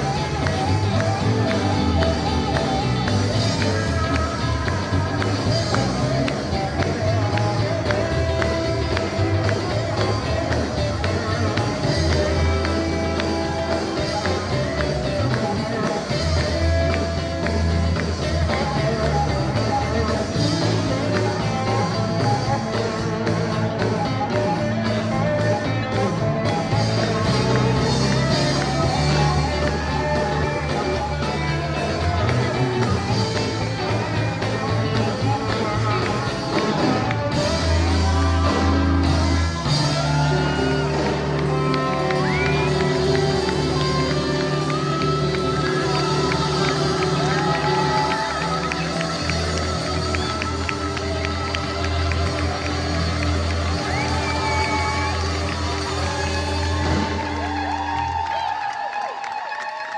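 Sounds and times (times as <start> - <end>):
steel guitar: 0.0 - 57.8
electric bass line: 0.0 - 58.4.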